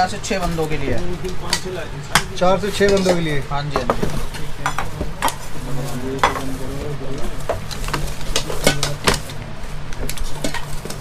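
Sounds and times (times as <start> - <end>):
cookware clinking and clattering: 0.8 - 9.4, 10.0 - 11.0.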